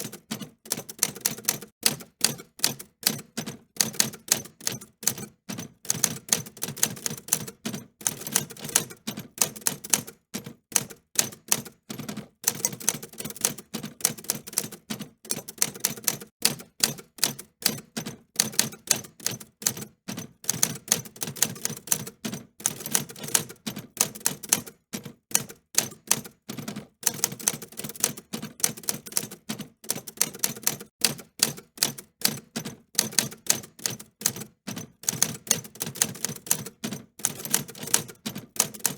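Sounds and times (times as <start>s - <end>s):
manual typewriter typing: 0.0s - 38.9s.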